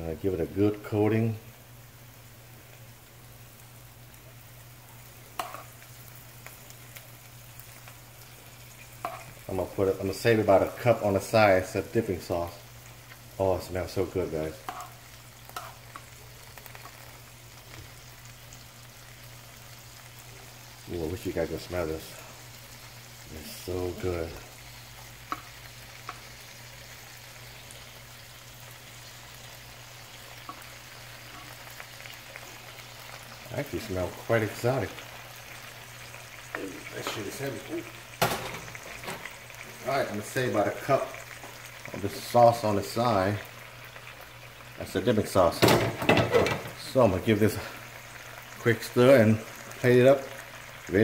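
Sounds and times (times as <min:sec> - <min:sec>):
sauce sizzling in a pan: 0:00.0 - 0:51.0.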